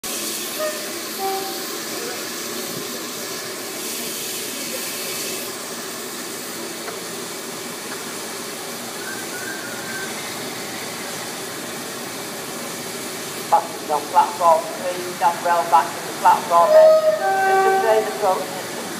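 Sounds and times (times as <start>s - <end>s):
diesel locomotive running: 0.0s - 18.9s
high hiss: 0.0s - 18.9s.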